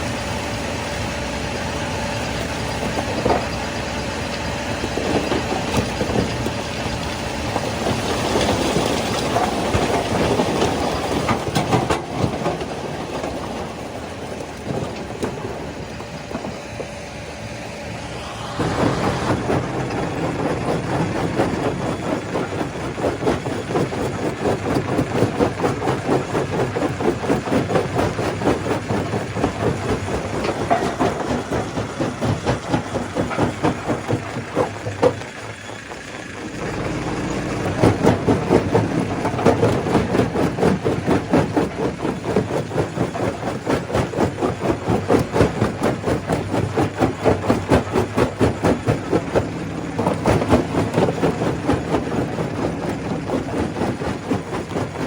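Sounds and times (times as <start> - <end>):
stone crusher clattering: 2.3 - 16.8, 18.6 - 55.0.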